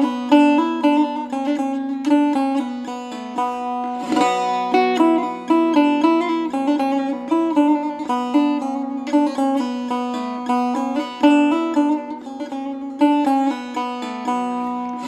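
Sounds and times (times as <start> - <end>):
plucked string melody: 0.0 - 15.0.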